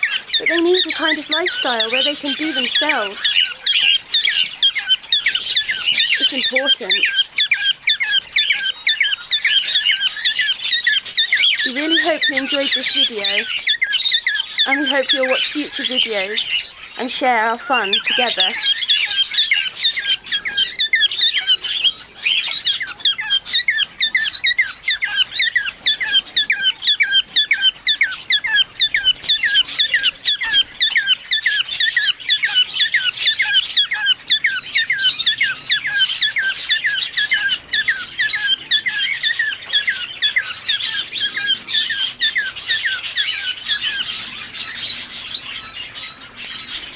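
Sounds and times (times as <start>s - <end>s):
parrots chirping and chattering: 0.0s - 46.9s.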